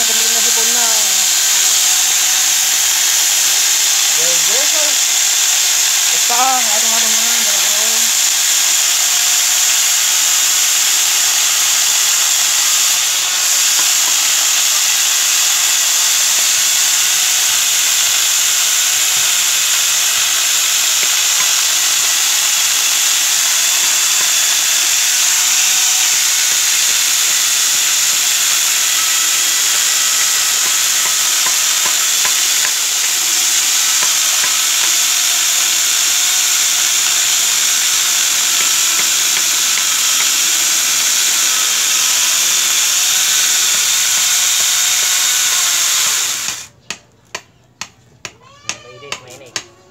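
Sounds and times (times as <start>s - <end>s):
chainsaw attachment cutting log: 0.0s - 46.7s, 48.2s - 49.7s.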